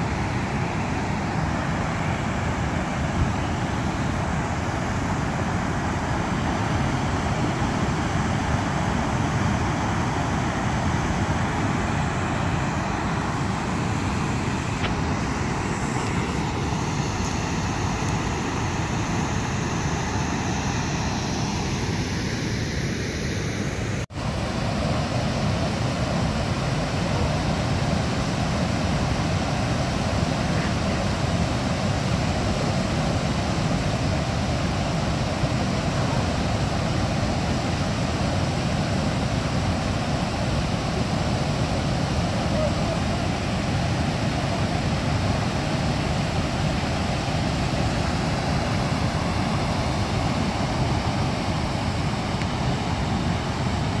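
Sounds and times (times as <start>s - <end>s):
water rushing over a dam spillway: 0.0s - 54.0s.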